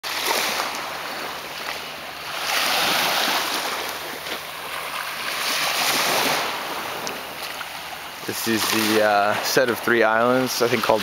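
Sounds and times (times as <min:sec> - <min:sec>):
small waves washing onto shore: 0:00.0 - 0:11.0.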